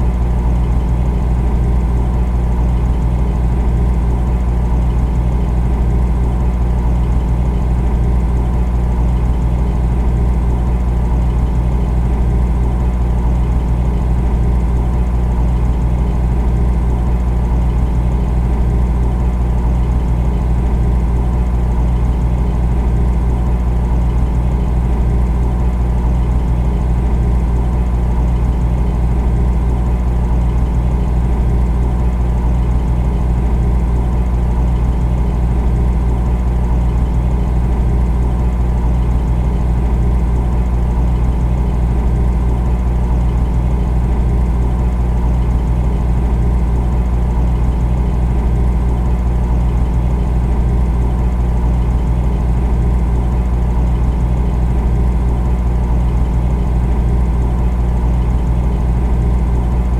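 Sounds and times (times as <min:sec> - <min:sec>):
refrigerator humming: 0:00.0 - 0:59.9.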